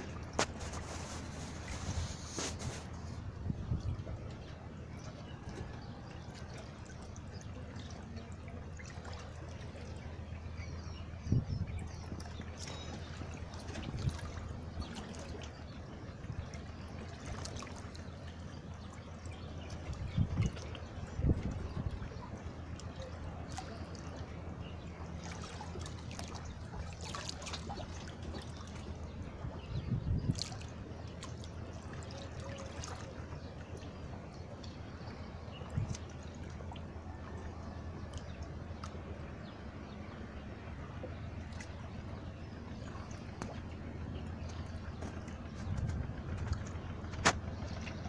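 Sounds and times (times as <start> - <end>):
seawater lapping and trickling: 0.0 - 48.0
steady low hum: 0.0 - 48.0.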